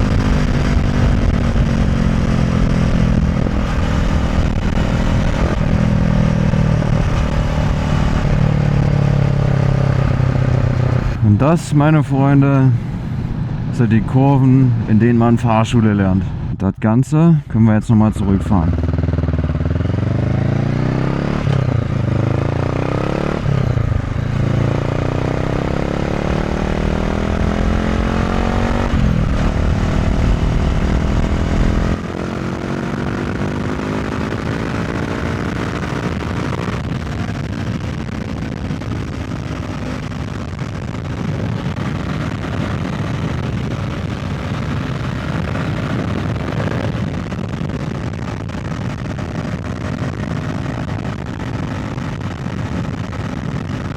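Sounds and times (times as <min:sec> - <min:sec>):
motorcycle engine accelerating: 0:00.0 - 0:16.6, 0:18.0 - 0:53.9
wind noise on microphone: 0:00.0 - 0:16.7, 0:18.7 - 0:53.9.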